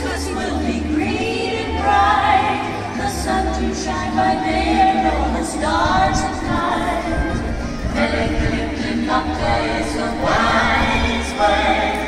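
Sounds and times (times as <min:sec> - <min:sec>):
choir singing held notes: 0:00.0 - 0:12.0
musical accompaniment: 0:00.0 - 0:12.0.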